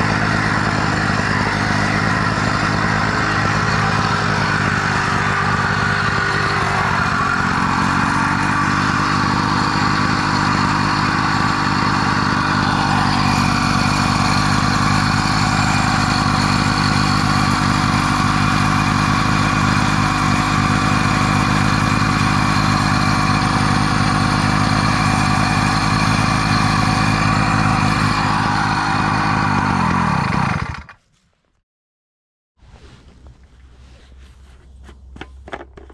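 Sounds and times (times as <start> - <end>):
small gas engine running: 0.0 - 31.0.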